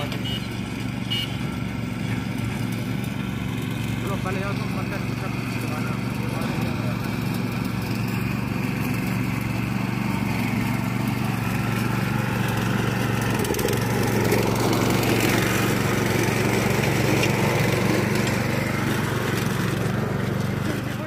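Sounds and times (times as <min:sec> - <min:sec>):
power weeder engine running: 0:00.0 - 0:21.0.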